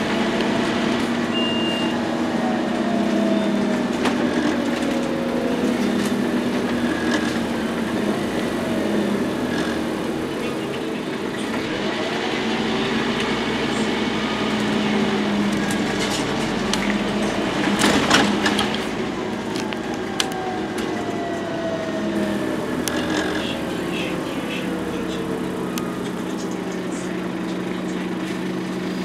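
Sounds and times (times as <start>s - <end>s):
bus engine humming: 0.0s - 29.0s
road noise: 0.0s - 29.0s.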